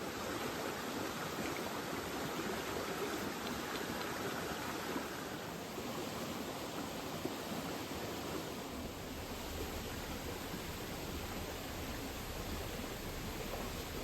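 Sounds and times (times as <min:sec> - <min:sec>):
river water flowing: 0:00.0 - 0:14.0.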